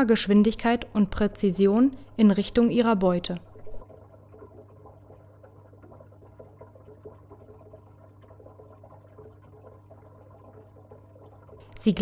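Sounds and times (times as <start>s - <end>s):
faint trickling bubbling water: 0.2s - 12.0s.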